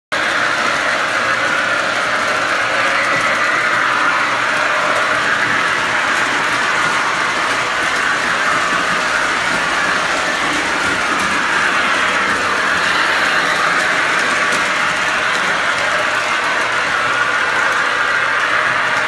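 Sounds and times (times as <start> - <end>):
model train rumbling on track: 0.1 - 19.0.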